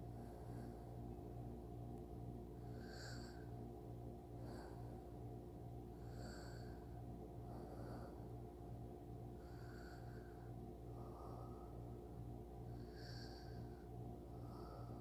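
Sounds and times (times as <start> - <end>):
soft snoring breaths: 0.0 - 1.1, 2.6 - 15.0
low electrical hum: 0.0 - 15.0.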